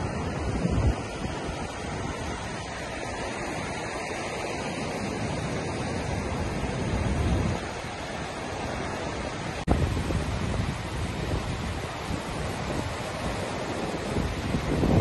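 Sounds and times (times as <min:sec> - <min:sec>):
ocean surf on sandy beach: 0:00.0 - 0:15.0
wind rumbling on microphone: 0:00.0 - 0:15.0.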